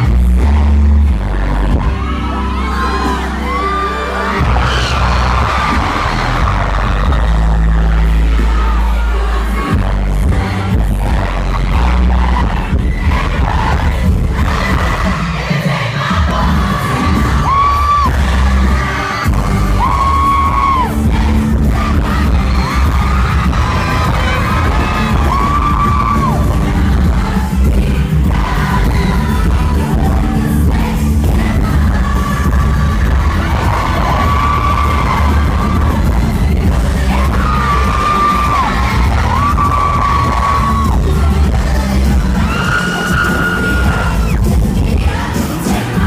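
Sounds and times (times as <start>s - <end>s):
amplified pop music: 0.0s - 46.0s
yelling and whooping: 1.8s - 9.8s, 11.1s - 30.3s, 32.1s - 44.5s
heavy bass beat: 4.3s - 46.0s.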